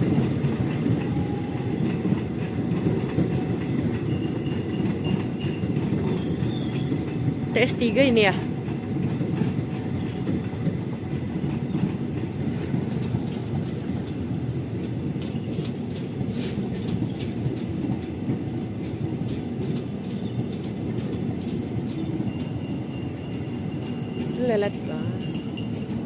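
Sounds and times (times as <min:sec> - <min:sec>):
train wheels rumbling on rail: 0:00.0 - 0:26.0
wheels clicking over rail joints: 0:00.0 - 0:26.0.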